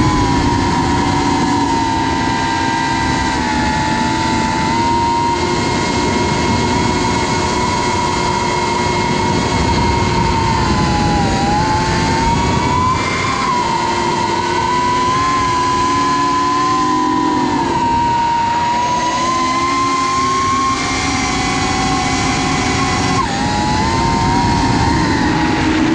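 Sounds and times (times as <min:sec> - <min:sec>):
drone propellers whining: 0:00.0 - 0:25.9.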